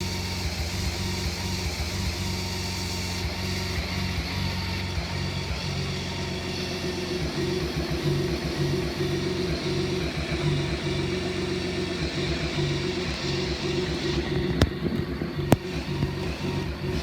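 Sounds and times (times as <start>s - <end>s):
motorcycle engine idling roughly: 0.0s - 17.0s.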